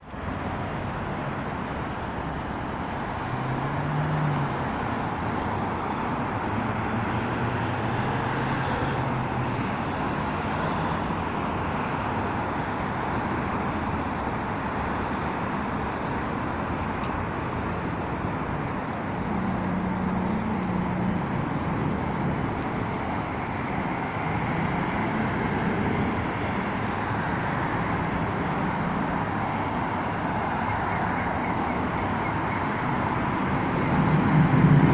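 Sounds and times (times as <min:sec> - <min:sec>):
cars in slow traffic: 0:00.0 - 0:34.9
low hum of engines: 0:00.0 - 0:34.9.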